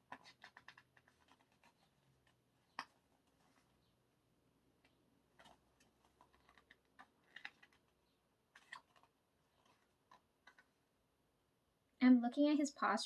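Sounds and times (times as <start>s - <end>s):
paper photos being handled: 0.0s - 11.0s.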